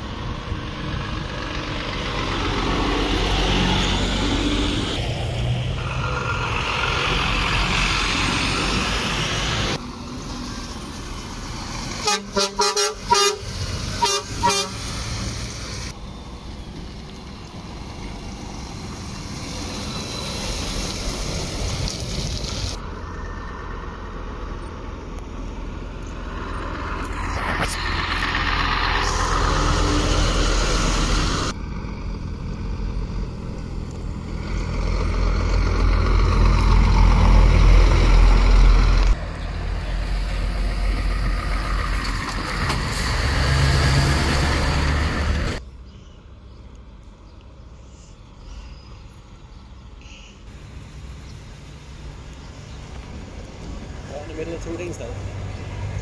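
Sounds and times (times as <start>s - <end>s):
lorry diesel engines rumbling: 0.0s - 56.0s.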